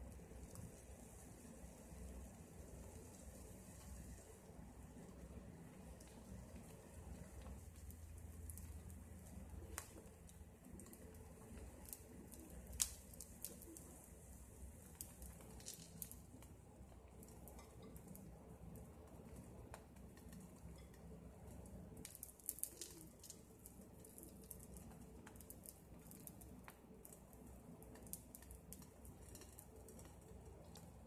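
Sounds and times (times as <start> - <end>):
omelette cooking hiss: 0.0 - 31.0
bread cubes clicking and tapping: 4.9 - 31.0.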